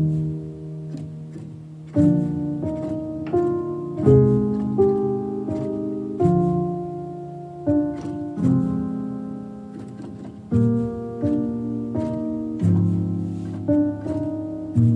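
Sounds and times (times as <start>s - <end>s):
slow calm piano piece: 0.0s - 14.9s.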